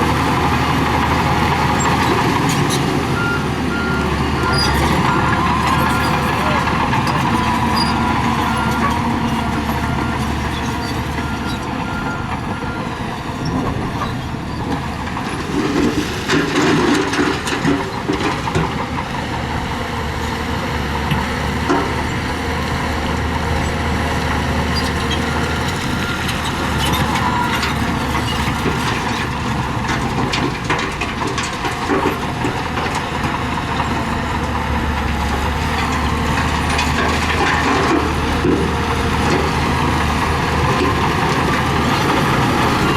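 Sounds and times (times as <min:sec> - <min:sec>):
diesel earthmoving machinery: 0:00.0 - 0:42.9.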